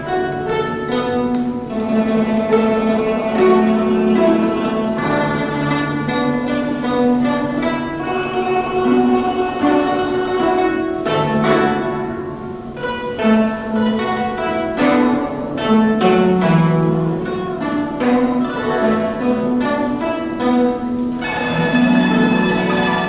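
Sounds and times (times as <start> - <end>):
plucked zither: 0.0 - 23.0.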